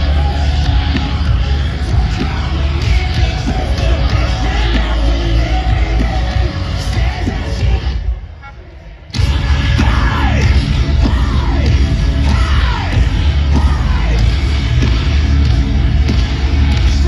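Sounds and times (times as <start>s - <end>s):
live metal band playing: 0.0s - 8.2s, 9.1s - 17.0s.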